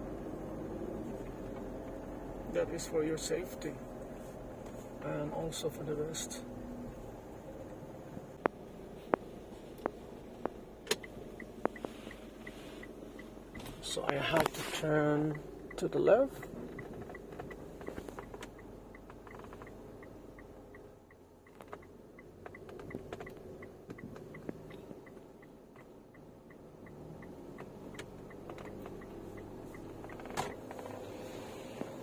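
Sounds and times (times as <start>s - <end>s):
engine and road hum: 0.0s - 32.0s
turn signal ticking: 0.0s - 32.0s.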